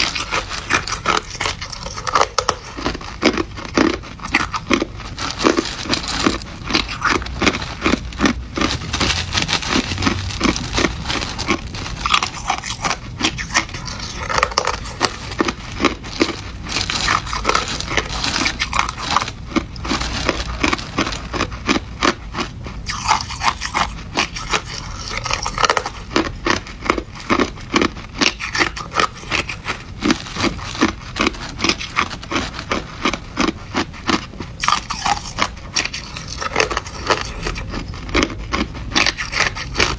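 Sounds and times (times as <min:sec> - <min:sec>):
ice being chewed: 0:00.0 - 0:39.9
plastic bag crinkling: 0:00.0 - 0:39.9.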